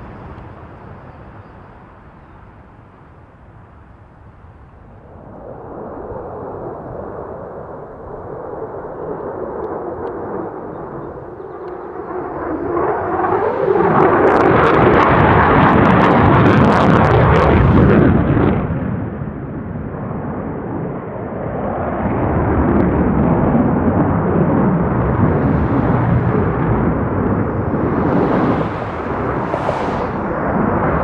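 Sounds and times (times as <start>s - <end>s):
jet engine crackling: 0.0s - 18.6s, 22.5s - 31.0s
jet aircraft flying past: 0.0s - 31.0s.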